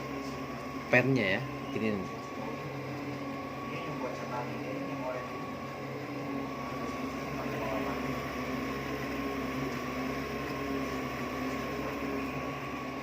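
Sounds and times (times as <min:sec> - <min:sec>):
three-d printer humming and whining: 0:00.0 - 0:13.0.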